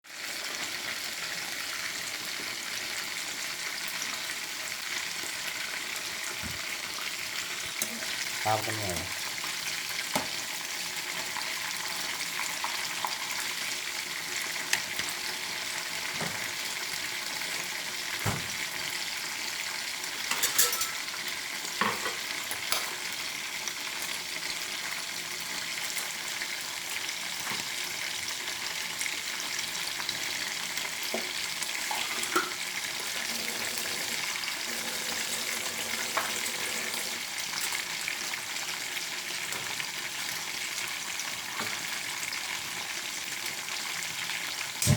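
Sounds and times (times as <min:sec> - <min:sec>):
food deep-frying in hot oil: 0:00.0 - 0:44.9.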